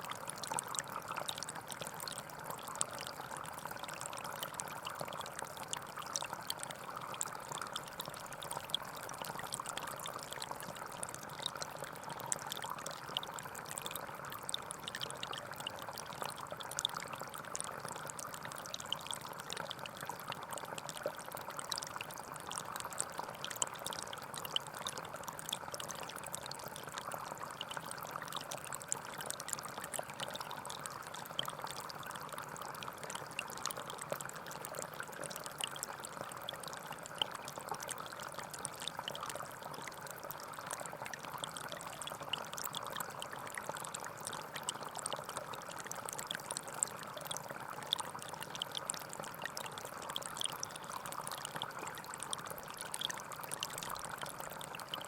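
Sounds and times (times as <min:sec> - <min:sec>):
stream flowing: 0:00.0 - 0:55.0
water splashes and drips: 0:00.0 - 0:55.0.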